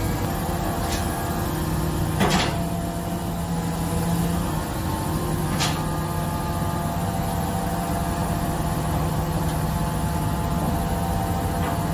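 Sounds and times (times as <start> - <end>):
crane engine and hydraulics humming: 0.0 - 11.9.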